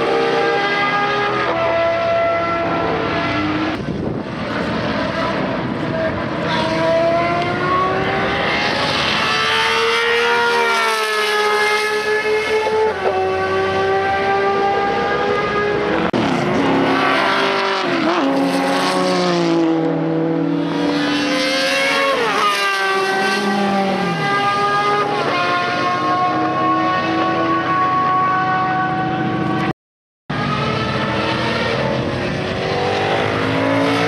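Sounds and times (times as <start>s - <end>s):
racing engine at high revs: 0.0s - 29.7s, 30.3s - 34.0s.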